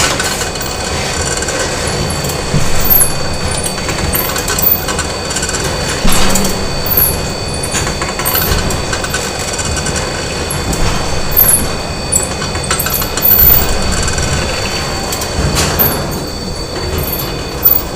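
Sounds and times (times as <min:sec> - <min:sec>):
machine whining tones: 0:00.0 - 0:17.9
machinery low rumble: 0:00.0 - 0:17.9
metallic knocks and clanks: 0:02.0 - 0:17.9.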